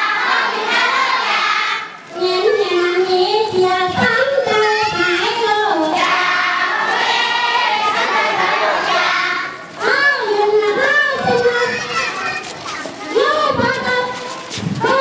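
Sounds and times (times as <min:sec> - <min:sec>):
group singing with children: 0:00.0 - 0:11.7, 0:13.1 - 0:15.0.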